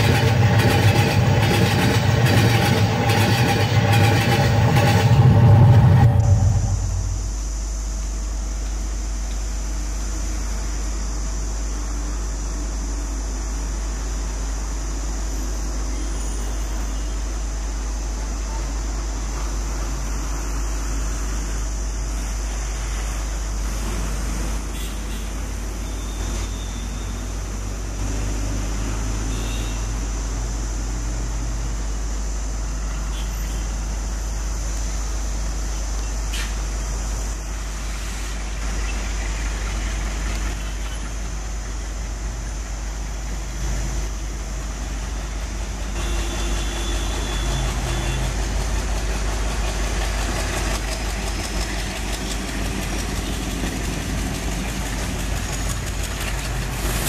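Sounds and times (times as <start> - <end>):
diesel locomotive engines droning: 0.0 - 57.0.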